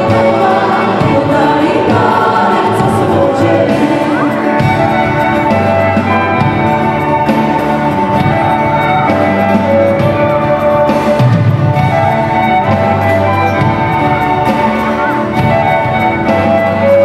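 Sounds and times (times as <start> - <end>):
live band playing a carol: 0.0 - 17.0.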